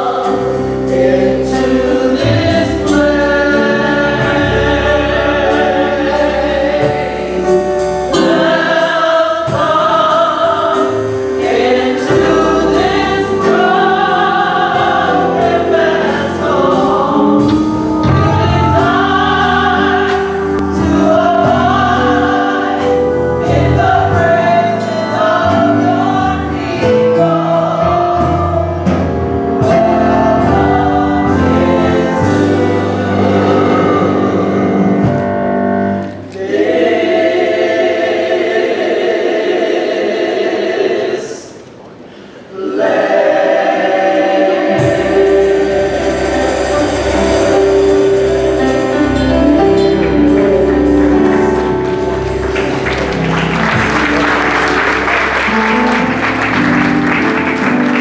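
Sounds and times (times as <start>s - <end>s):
band accompaniment with steady beat: 0.0s - 37.4s, 44.6s - 58.0s
gospel choir singing: 0.0s - 58.0s.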